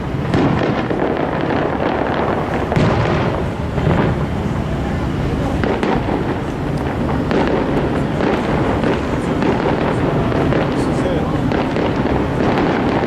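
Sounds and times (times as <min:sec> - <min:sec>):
dense rumble: 0:00.0 - 0:13.0
fireworks bangs and crackles: 0:00.0 - 0:13.0.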